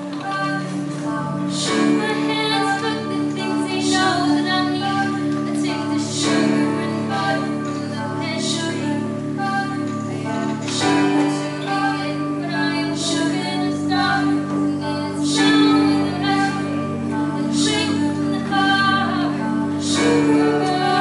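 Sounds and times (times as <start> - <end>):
instrumental accompaniment: 0.0 - 21.0
woman singing: 0.0 - 21.0.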